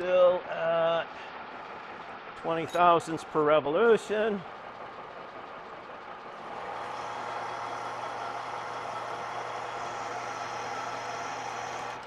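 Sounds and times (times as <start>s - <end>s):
metal lathe cutting: 1.5s - 12.0s.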